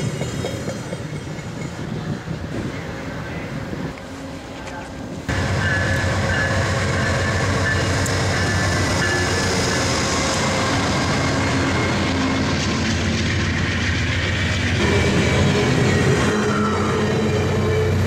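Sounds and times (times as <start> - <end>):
diesel locomotive engine: 0.0 - 18.0
train coaches rolling on rails: 0.0 - 18.0.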